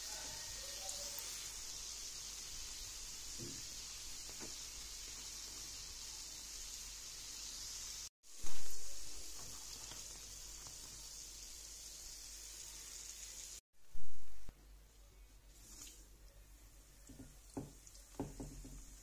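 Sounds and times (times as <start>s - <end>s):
hot oil sizzling: 0.0s - 13.6s, 17.0s - 19.0s.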